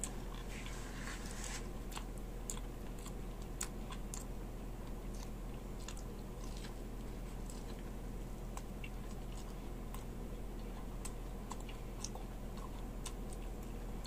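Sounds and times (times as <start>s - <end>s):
person chewing meat: 0.0s - 14.0s
steady low hum: 0.0s - 14.0s.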